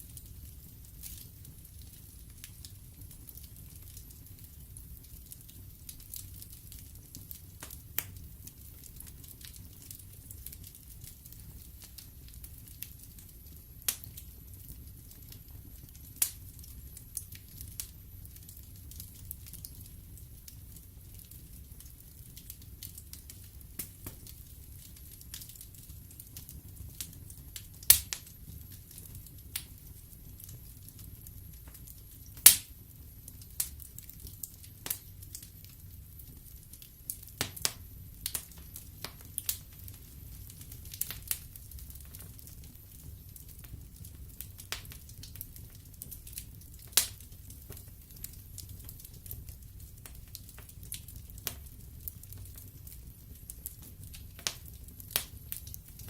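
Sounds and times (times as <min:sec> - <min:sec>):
fire crackling pops and snaps: 0:00.0 - 0:56.0
fire low rumble: 0:00.0 - 0:56.0.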